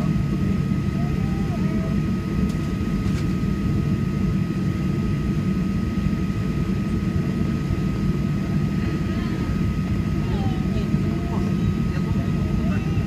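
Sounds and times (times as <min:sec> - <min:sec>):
constant high whine: 0:00.0 - 0:13.0
jet engines idling rumble: 0:00.0 - 0:13.0.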